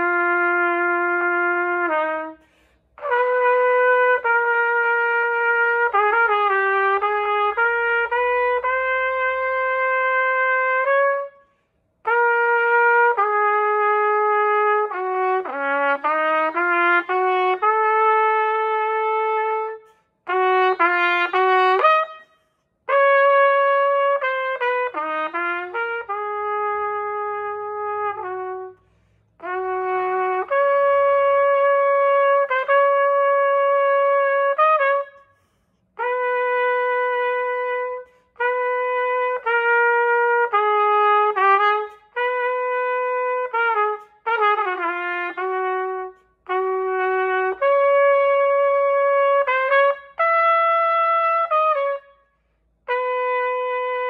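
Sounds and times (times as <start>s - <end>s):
solo trumpet playing: 0.0s - 54.0s.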